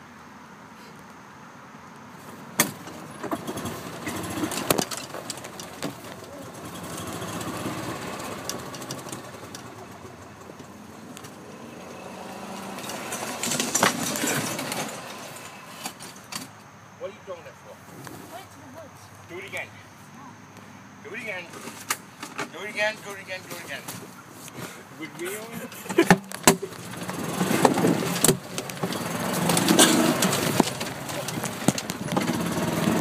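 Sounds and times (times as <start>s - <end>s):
golf cart rumble and rattle: 2.0s - 19.7s, 20.3s - 33.0s.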